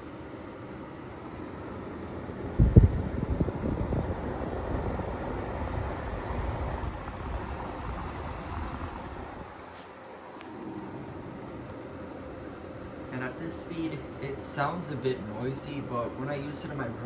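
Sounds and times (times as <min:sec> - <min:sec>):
humidifier fan rushing air: 0:00.0 - 0:17.0.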